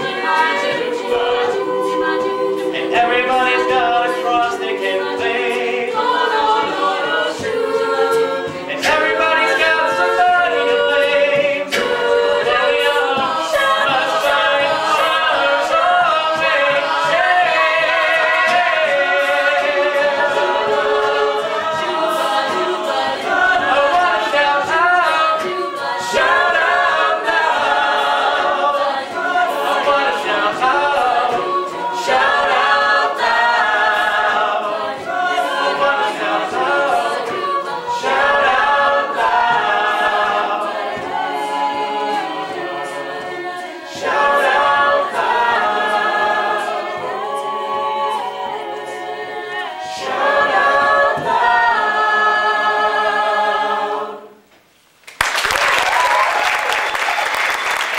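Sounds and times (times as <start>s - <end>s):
a cappella group singing: 0.0s - 54.6s.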